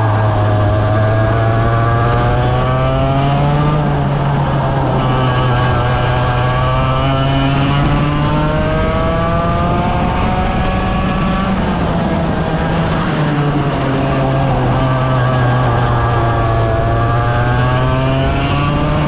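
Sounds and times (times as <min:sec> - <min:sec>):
go-kart engines droning: 0:00.0 - 0:19.0
kart engine accelerating: 0:00.0 - 0:19.0.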